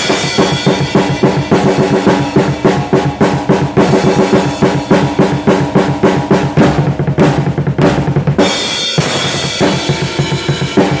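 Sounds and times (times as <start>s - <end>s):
drum kit played hard: 0.0s - 11.0s.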